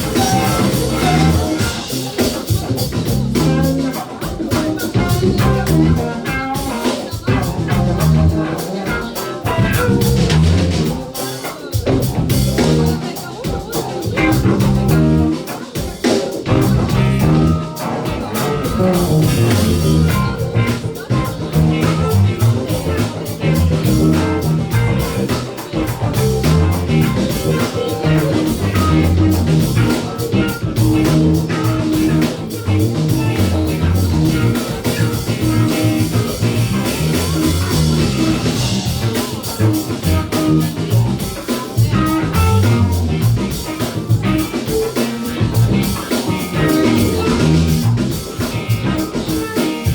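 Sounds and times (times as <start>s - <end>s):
band playing rock-soul groove: 0.0s - 49.9s.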